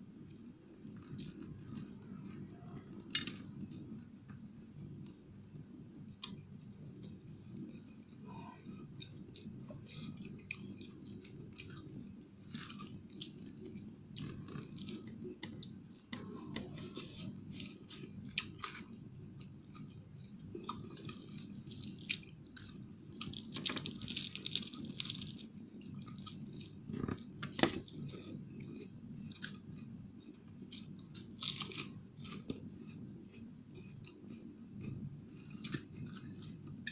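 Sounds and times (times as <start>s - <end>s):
steady low hum: 0.0s - 36.9s
crunchy chewing: 6.1s - 36.9s.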